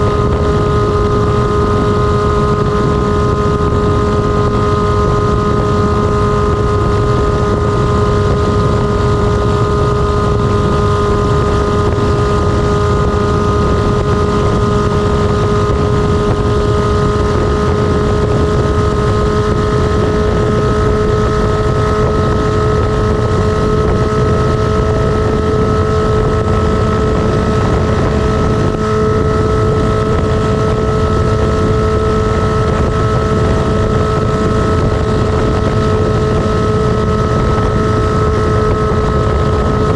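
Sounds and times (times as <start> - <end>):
loud motorcycle engine running: 0.0 - 39.9
wind noise on microphone: 0.0 - 39.9.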